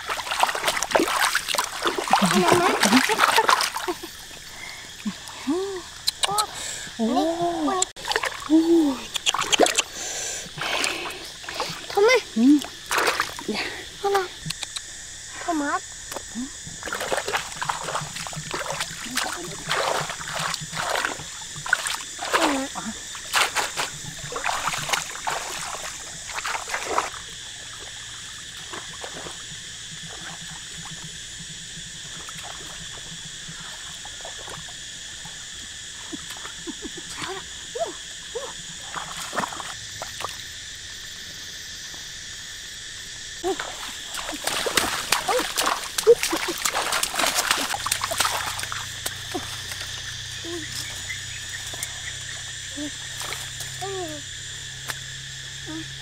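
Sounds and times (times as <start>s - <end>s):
water splashing and sloshing: 0.0s - 41.3s, 43.4s - 56.0s.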